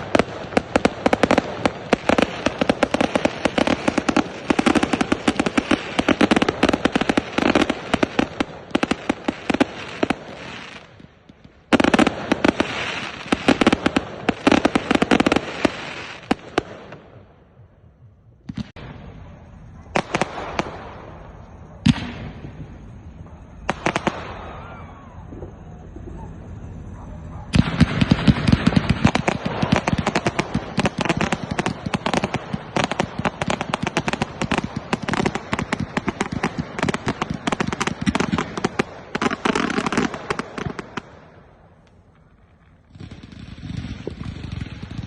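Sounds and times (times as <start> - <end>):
firework bangs: 0.0 - 45.0
rapid crackling firework barrage: 0.0 - 45.0.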